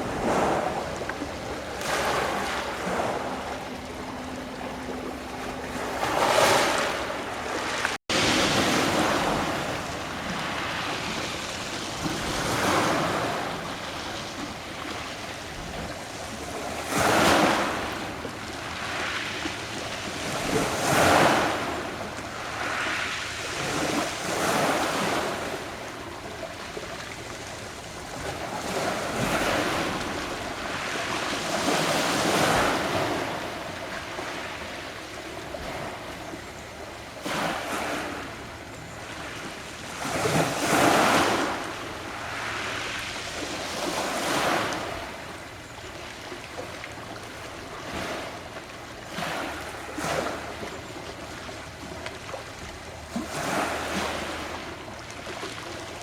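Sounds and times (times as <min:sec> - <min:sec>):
waves washing onto shore: 0:00.0 - 0:56.0.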